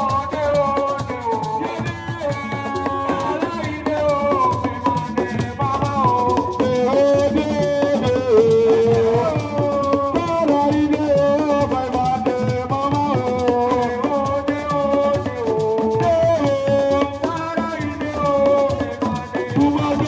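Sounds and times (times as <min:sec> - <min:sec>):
fast dense percussion: 0:00.0 - 0:20.0
rattling shaker: 0:00.0 - 0:20.0.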